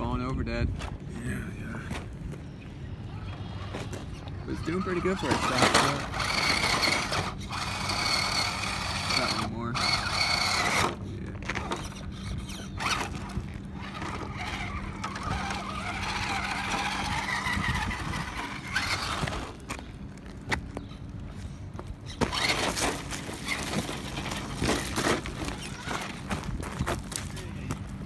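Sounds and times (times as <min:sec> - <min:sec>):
electric motor and gearbox whining: 0:03.0 - 0:21.1, 0:21.8 - 0:28.0
wheels crunching on gravel: 0:03.1 - 0:28.0.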